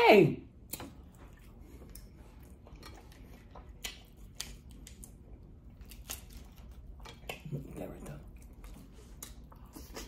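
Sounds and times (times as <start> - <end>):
food crackling: 0.6 - 10.0
person chewing food: 0.6 - 10.0.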